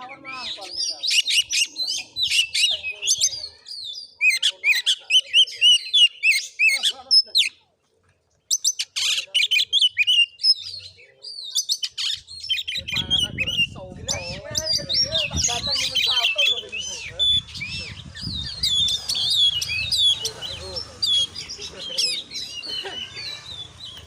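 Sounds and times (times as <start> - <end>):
bird singing: 0.0 - 7.6, 8.4 - 24.0.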